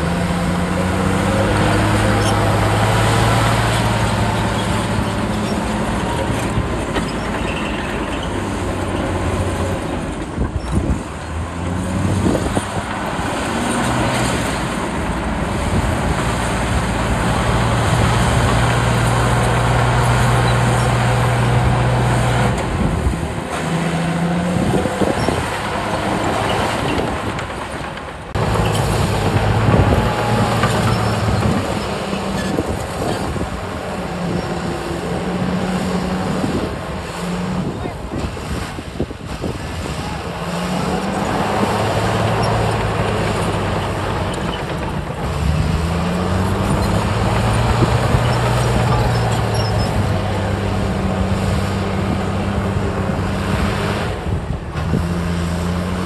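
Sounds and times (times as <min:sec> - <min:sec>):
heavy diesel engines under load: 0:00.0 - 0:56.0.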